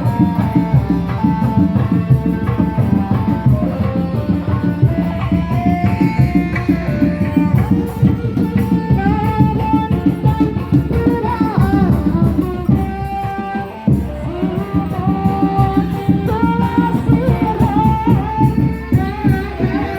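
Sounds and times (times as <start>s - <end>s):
fast dense drumming: 0.0s - 13.3s, 13.9s - 19.9s.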